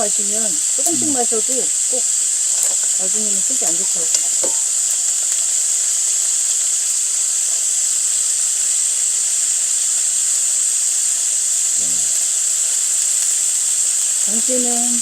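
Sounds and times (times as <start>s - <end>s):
cicadas chorus: 0.0s - 15.0s.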